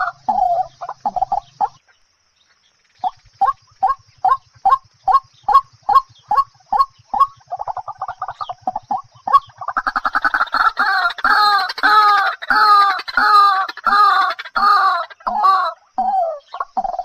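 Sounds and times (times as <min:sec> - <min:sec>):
fowl clucking and calling: 0:00.0 - 0:02.1, 0:03.0 - 0:17.0.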